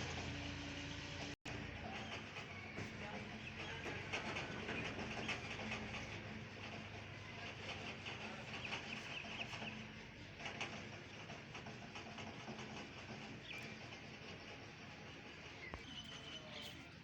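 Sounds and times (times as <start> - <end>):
steady background noise: 0.0 - 17.0
birds chirping and clucking: 0.3 - 16.8.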